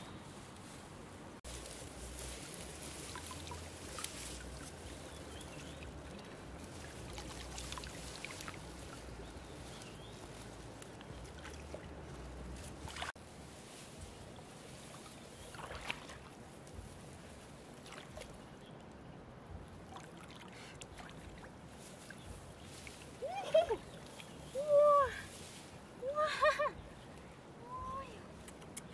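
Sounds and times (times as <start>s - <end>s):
shallow river flowing: 0.0s - 28.4s
hands rustling reeds and splashing: 0.0s - 28.8s.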